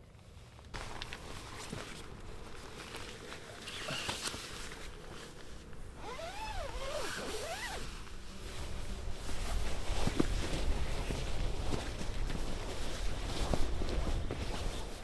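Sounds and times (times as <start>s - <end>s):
tent nylon rustling and scraping: 0.3s - 15.0s.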